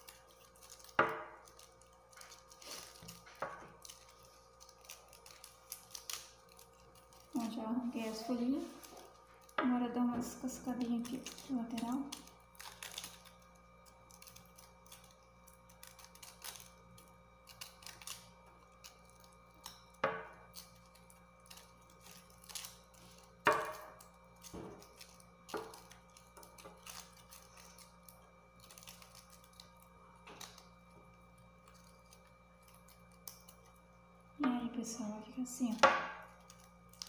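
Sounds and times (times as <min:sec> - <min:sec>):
leaf bases snapping: 0:00.0 - 0:37.0.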